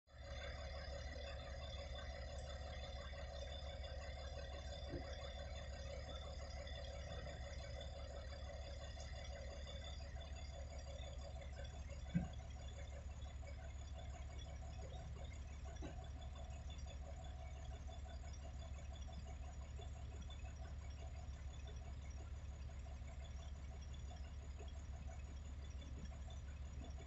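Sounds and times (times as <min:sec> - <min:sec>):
heavy machinery diesel engine drone: 0:00.1 - 0:27.0.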